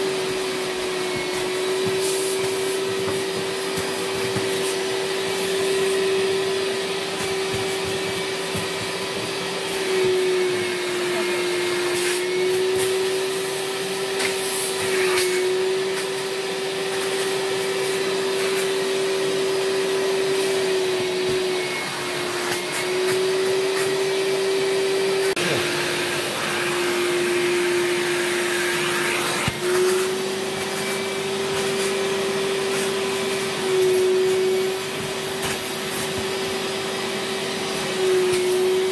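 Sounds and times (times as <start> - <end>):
vacuum motor running: 0.0 - 38.9.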